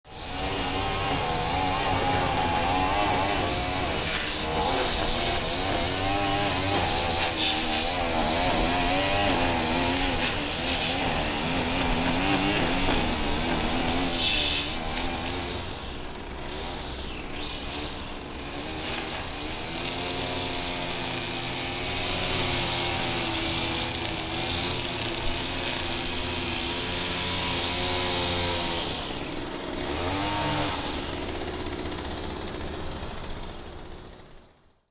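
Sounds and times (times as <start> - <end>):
grass trimmer engine running: 0.1 - 34.6.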